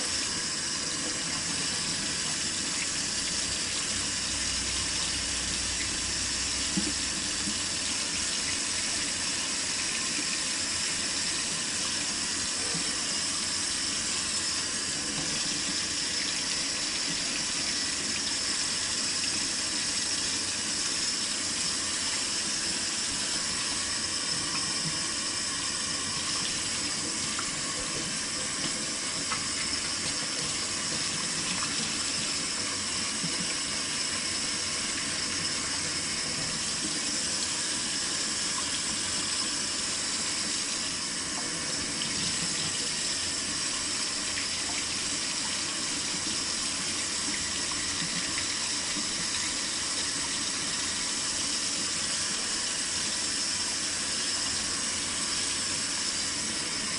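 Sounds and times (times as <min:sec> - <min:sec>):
faucet running into sink: 0:00.0 - 0:56.9.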